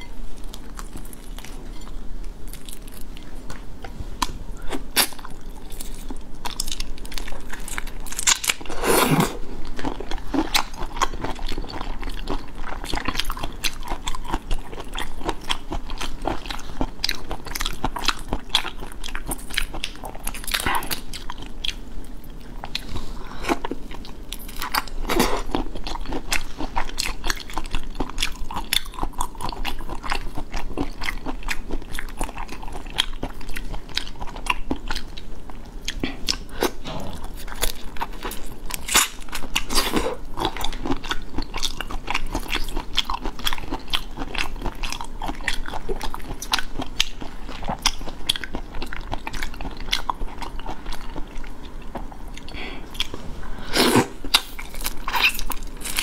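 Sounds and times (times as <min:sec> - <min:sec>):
chewing: 0:00.4 - 0:56.0.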